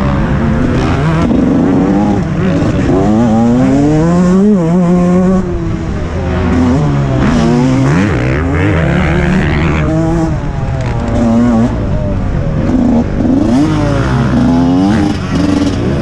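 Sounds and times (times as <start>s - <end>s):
two-stroke motocross engine revving: 0.0s - 5.6s, 6.3s - 11.8s, 12.6s - 16.0s.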